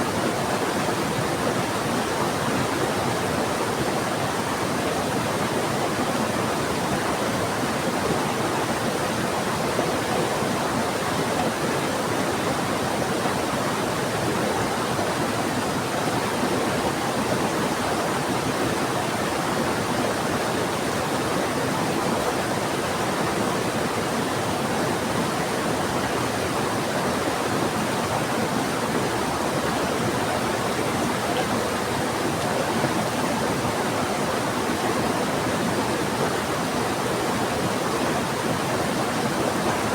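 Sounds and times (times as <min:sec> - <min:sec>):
fast-flowing river: 0:00.0 - 0:39.9.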